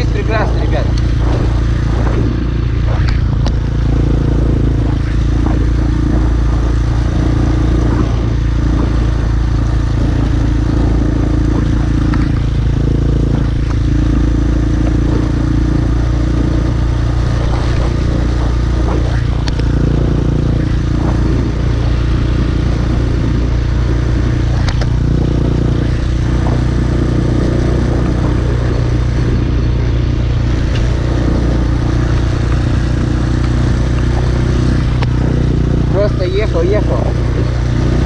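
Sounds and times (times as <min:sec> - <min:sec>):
rushing wind: 0:00.0 - 0:38.0
small motorcycle engine running: 0:00.0 - 0:38.0.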